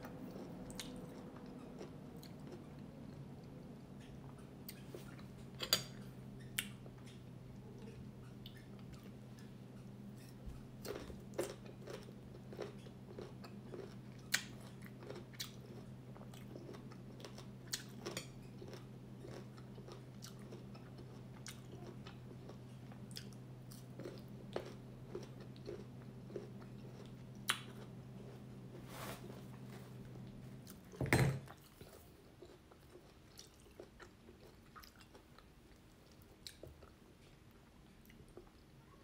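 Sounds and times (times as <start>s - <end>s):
chewing crunchy mango: 0.0s - 5.4s, 6.4s - 30.9s, 31.5s - 38.7s
steady low hum: 0.0s - 39.0s.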